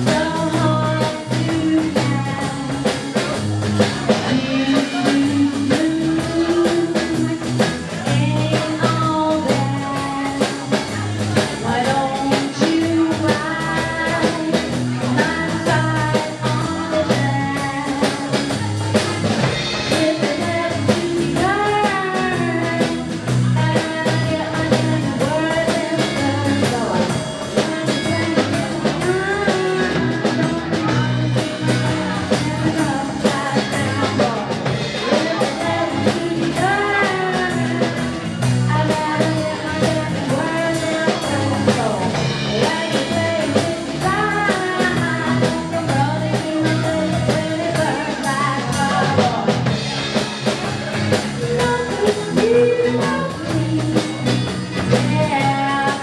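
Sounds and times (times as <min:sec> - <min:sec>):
woman singing: 0:00.0 - 0:50.0, 0:51.2 - 0:56.0
live band playing: 0:00.0 - 0:56.0
steady drum beat: 0:00.0 - 0:56.0.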